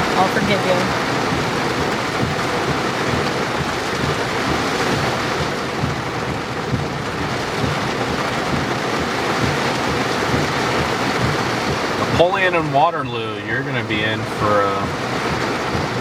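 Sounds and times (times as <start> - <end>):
heavy rain on a vehicle: 0.0 - 16.0.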